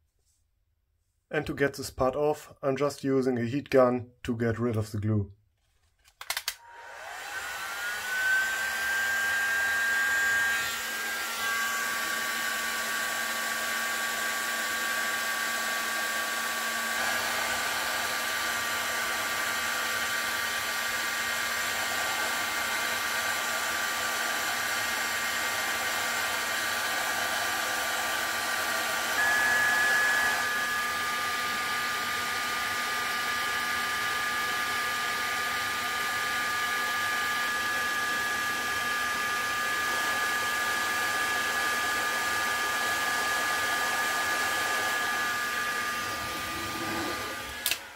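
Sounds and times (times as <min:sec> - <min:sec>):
heat gun fan whining: 0:06.2 - 0:47.9.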